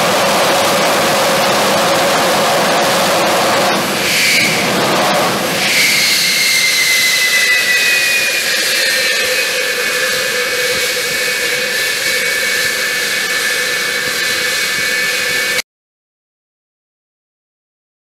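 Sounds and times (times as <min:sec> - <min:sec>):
jet engines roaring with howling whine: 0:00.0 - 0:15.6.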